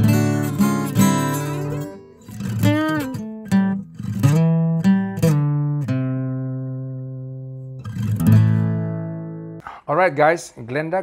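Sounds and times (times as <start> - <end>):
guitar plucking single notes: 0.0 - 9.6.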